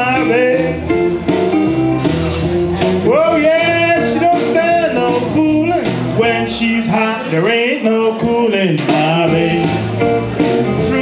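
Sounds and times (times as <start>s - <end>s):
instrumental backing: 0.0s - 11.0s
man singing blues: 0.0s - 11.0s.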